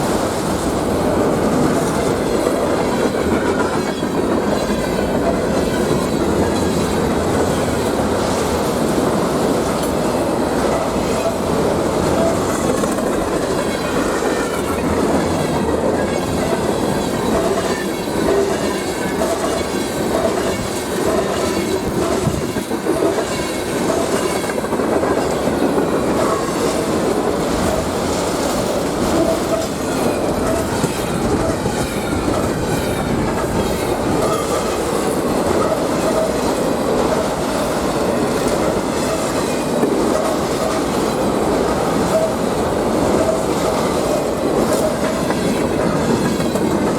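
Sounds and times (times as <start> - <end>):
train wheels clacking on rails: 0.0 - 46.9.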